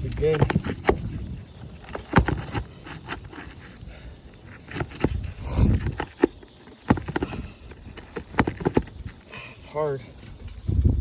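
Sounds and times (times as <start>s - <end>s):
hand tool scraping roof shingles: 0.0s - 9.5s.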